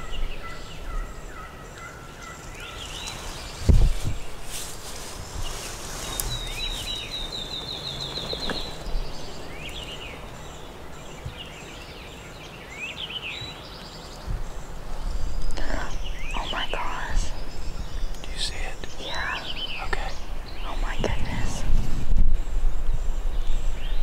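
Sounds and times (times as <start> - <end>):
bird chirping: 0.0 - 21.7
songbirds singing: 0.0 - 24.0.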